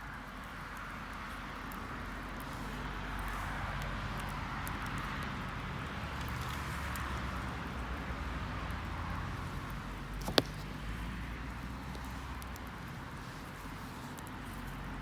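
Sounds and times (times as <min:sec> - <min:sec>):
wood bonfire crackling: 0:00.0 - 0:15.0
fire popping: 0:00.2 - 0:15.0.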